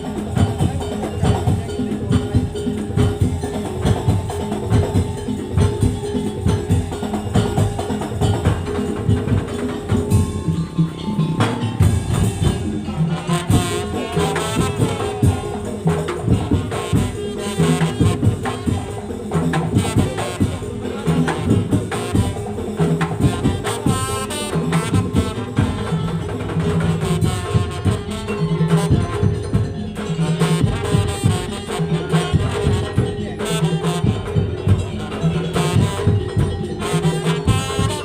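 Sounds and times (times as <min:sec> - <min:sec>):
bamboo slit drums: 0:00.0 - 0:38.0
drums beating: 0:00.0 - 0:38.0
jingling clanking percussion: 0:00.0 - 0:38.0
wavering melody line: 0:00.0 - 0:38.0.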